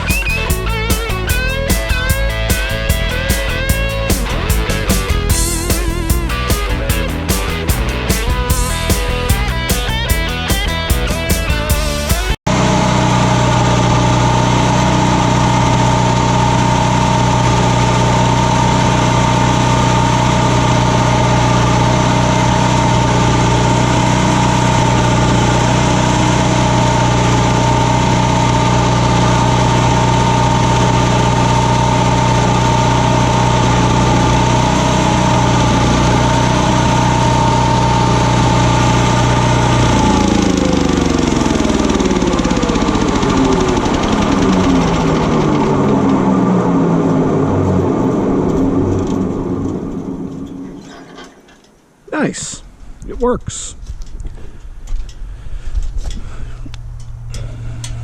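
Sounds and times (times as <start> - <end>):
chipper shredder engine running: 0.0 - 51.7.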